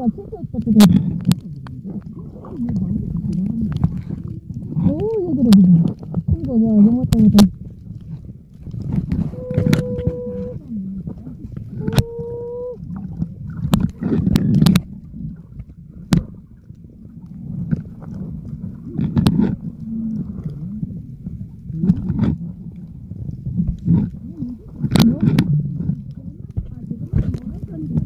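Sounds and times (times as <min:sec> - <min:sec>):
underwater rumbling and sloshing: 0:00.0 - 0:28.0.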